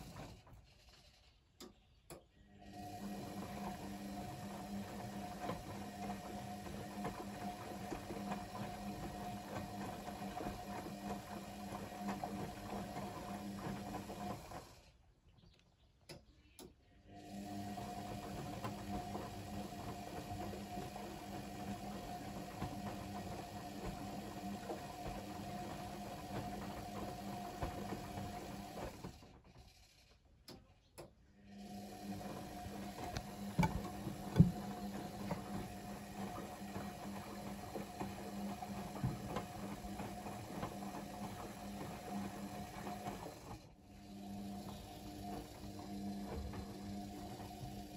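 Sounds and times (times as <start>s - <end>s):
washing machine motor humming: 0.0s - 0.6s, 2.6s - 14.9s, 17.0s - 29.6s, 31.4s - 47.9s
laundry and water sloshing: 2.9s - 14.8s, 17.4s - 29.2s, 31.7s - 43.7s, 44.4s - 47.9s.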